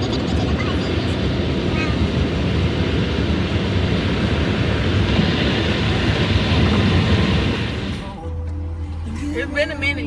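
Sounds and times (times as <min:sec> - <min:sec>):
car road noise: 0:00.0 - 0:10.0.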